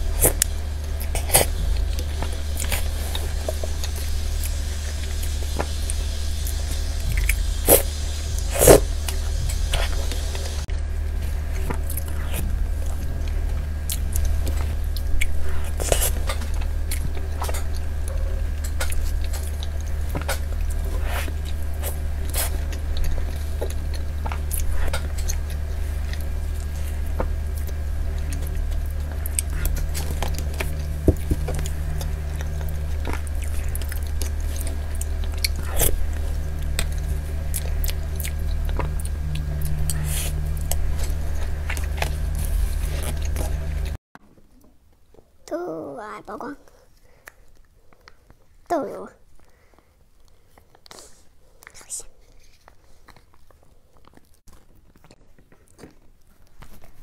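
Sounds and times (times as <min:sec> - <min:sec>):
chewing and mouth sounds: 0:00.0 - 0:10.6, 0:11.2 - 0:44.0, 0:46.6 - 0:57.0
steady low hum: 0:00.0 - 0:57.0.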